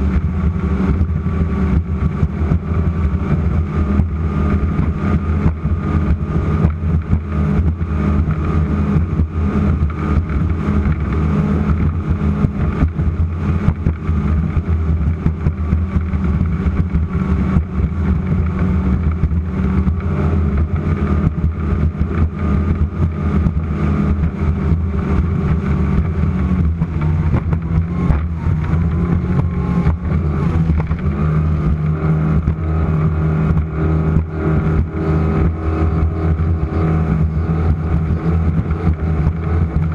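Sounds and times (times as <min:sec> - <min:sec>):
powerboat engines droning: 0:00.0 - 0:39.9
rough buffeting: 0:00.0 - 0:39.9.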